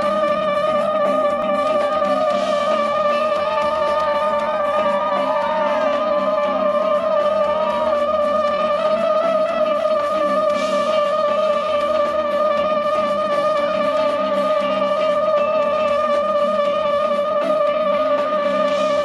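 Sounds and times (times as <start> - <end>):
trumpet holding high note: 0.0 - 18.2.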